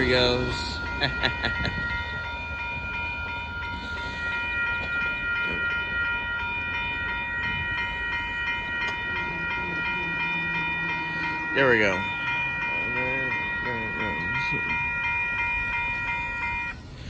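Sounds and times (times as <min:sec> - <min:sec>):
steady high ringing tone: 0:00.0 - 0:17.0
train rumble: 0:00.0 - 0:17.0.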